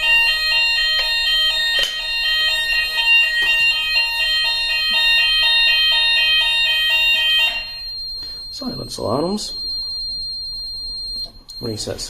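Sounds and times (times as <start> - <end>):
fire alarm two-pitch electronic tone: 0.0 - 12.0
steady high alarm tones: 0.0 - 12.0.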